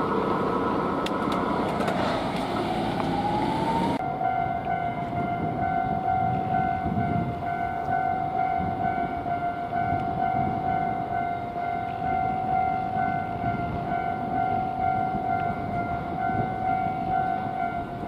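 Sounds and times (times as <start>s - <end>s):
train rumbling over crossing: 0.0s - 18.0s
level-crossing alarm bell: 3.1s - 18.0s.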